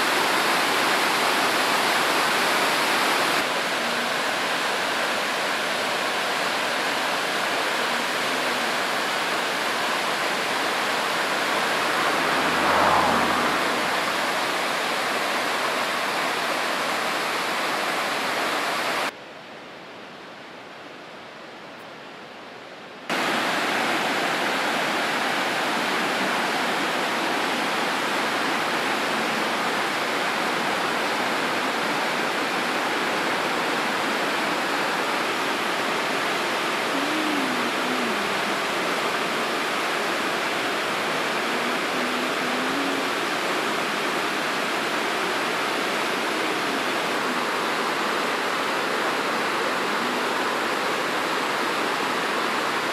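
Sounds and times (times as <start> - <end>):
river rushing over rocks: 0.0 - 19.2, 22.2 - 52.9.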